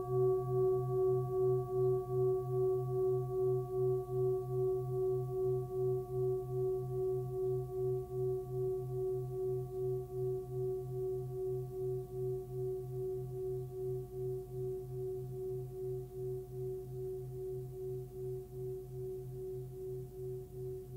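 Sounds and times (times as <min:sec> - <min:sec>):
singing bowl ringing: 0:00.0 - 0:20.9.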